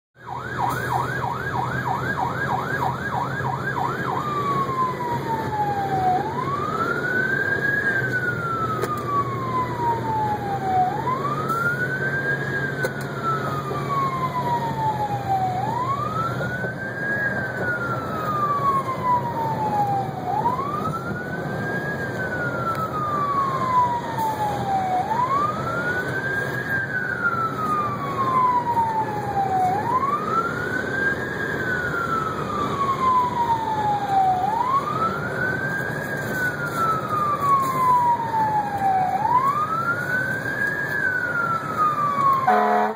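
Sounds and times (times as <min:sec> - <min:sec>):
siren yelping and wailing: 0:00.2 - 0:42.9.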